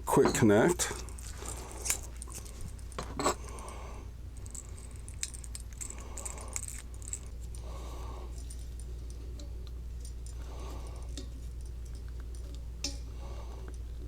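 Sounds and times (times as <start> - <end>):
metal fittings clinking and scraping: 0.0 - 3.8, 4.4 - 13.8.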